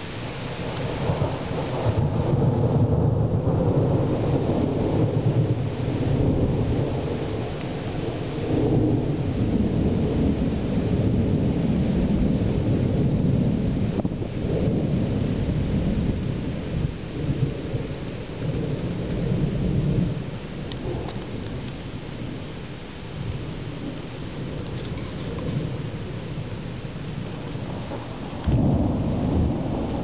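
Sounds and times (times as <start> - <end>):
rolling thunder rumble: 0.6 - 30.0.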